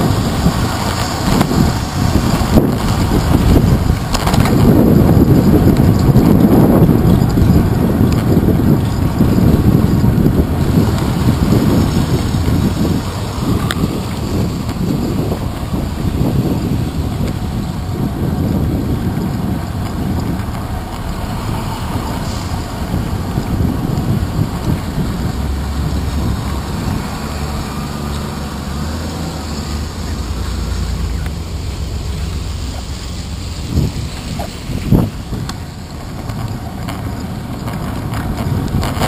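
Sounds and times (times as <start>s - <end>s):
motor traffic: 0.0s - 39.0s
road noise rumble: 0.0s - 39.0s
wind buffeting camera: 0.0s - 39.0s.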